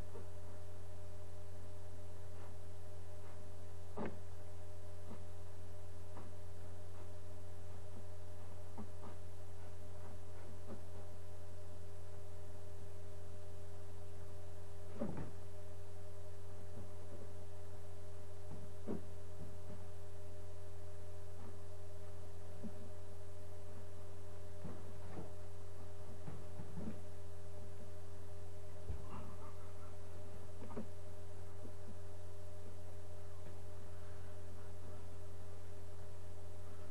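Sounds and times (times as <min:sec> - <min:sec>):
electrical hum: 0:00.0 - 0:36.9
faint steady whine: 0:00.0 - 0:36.9.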